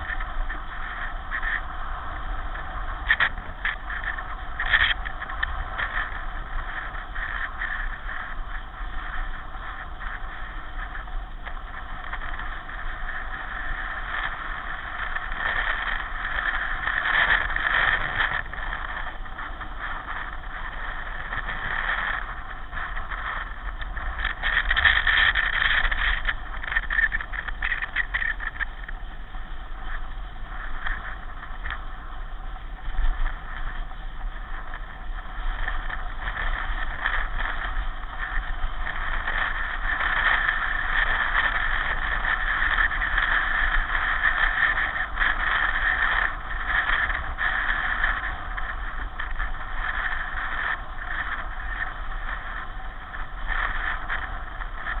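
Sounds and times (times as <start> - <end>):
pedal car rolling: 0.0 - 55.0.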